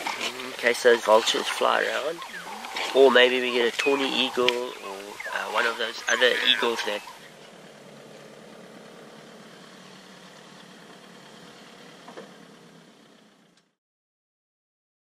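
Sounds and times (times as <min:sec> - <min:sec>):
vehicle engine idling: 0:00.0 - 0:13.8.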